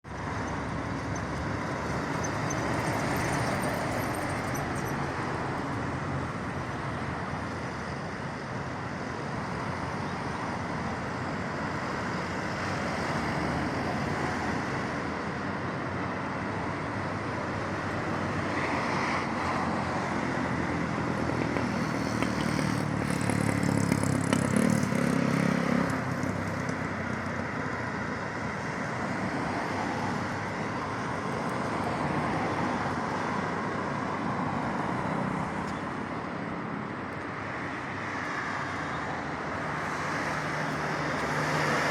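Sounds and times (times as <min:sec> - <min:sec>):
cars passing on a road: 0:00.0 - 0:41.9.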